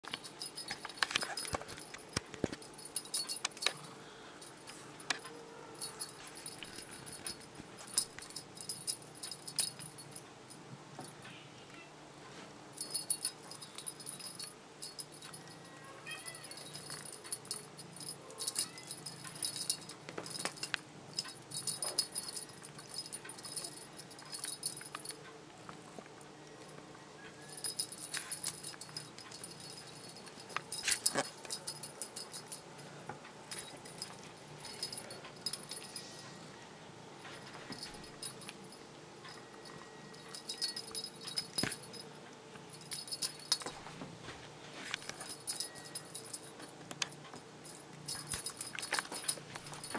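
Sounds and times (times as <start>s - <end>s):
small bell jingling: 0.1s - 10.2s, 12.8s - 25.2s, 27.4s - 36.5s, 37.3s - 43.8s, 45.0s - 46.7s, 47.3s - 49.9s.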